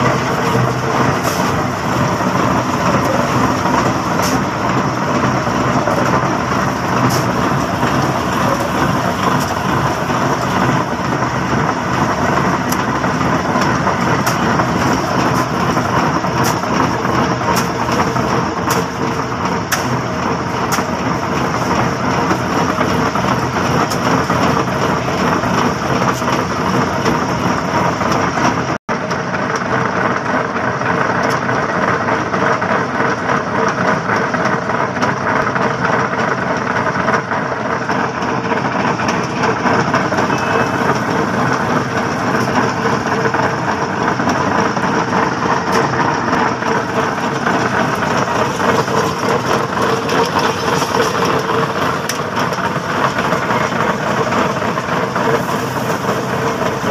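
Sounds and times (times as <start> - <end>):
pipe mould rumbling on rollers: 0.0 - 28.8, 32.5 - 56.9
concrete mix churning: 0.0 - 56.9.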